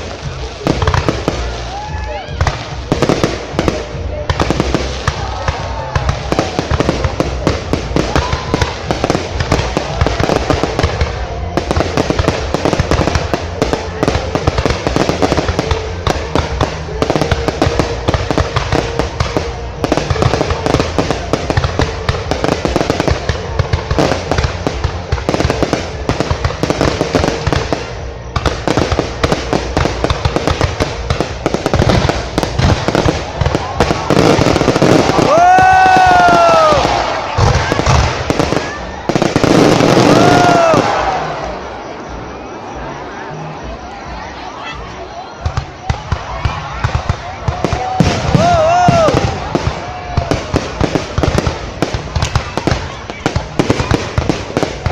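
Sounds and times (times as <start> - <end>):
fireworks bangs and crackles: 0.0 - 42.8, 45.4 - 54.9.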